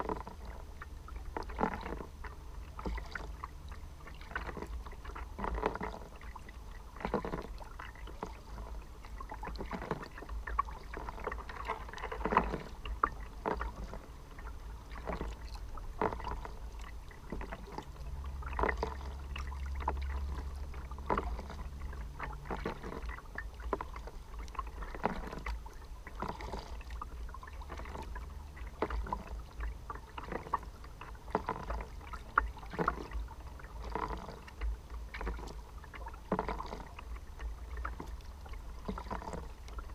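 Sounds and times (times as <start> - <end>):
low hum: 0.0 - 39.9
low steady rumble: 0.0 - 39.9
paddle blades splashing water: 0.0 - 39.9
water lapping against hull: 0.0 - 39.9.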